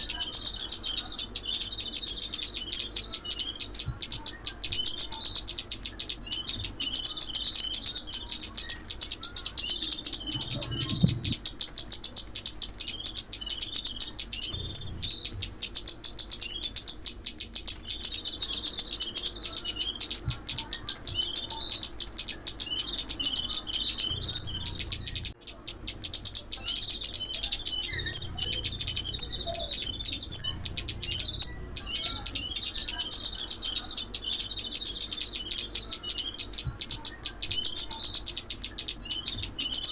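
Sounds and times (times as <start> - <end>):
bird whistle: 0.0 - 39.9
songbird twittering and trilling: 0.0 - 39.9.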